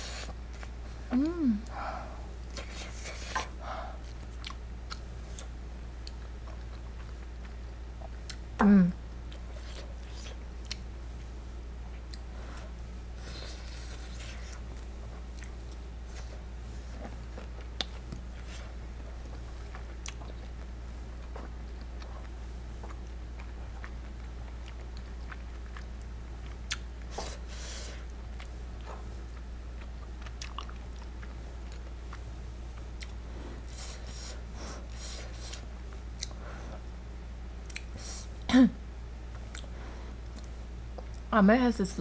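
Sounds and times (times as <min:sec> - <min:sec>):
close chewing and mouth sounds: 0:00.0 - 0:38.5, 0:39.2 - 0:41.3
steady low hum: 0:00.0 - 0:42.0.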